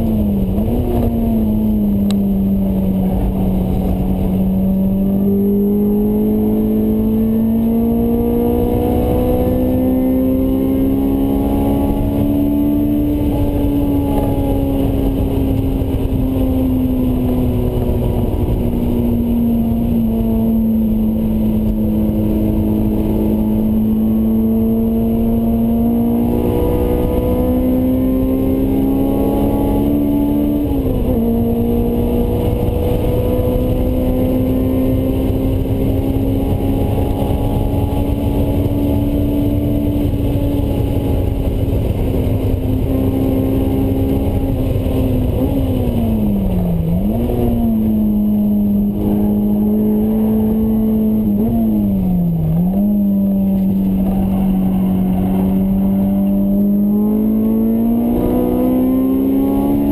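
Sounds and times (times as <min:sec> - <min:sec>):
car engine at high revs: 0:00.0 - 0:59.9
road and tyre rumble: 0:00.0 - 0:59.9.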